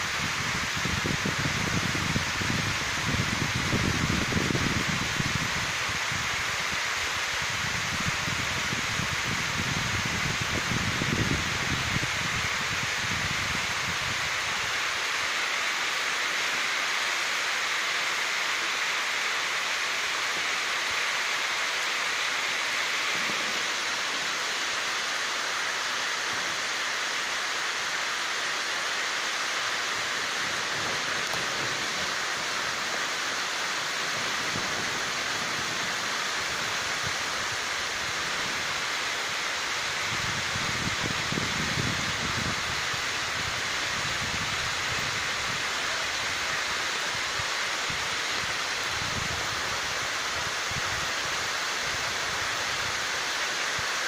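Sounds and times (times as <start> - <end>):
heavy rain on rooftops: 0.0 - 54.0.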